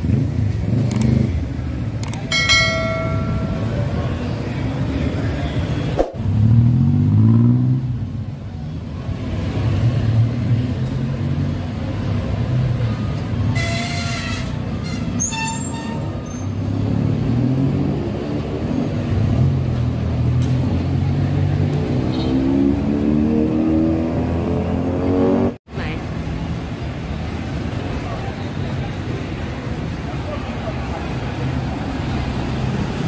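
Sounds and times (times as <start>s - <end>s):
motorbike and car engines passing: 0.0s - 13.5s, 16.4s - 33.0s.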